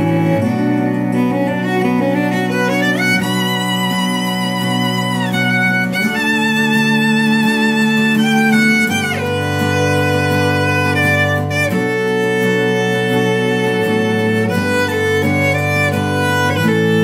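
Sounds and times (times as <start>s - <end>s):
slow instrumental melody: 0.0s - 17.0s.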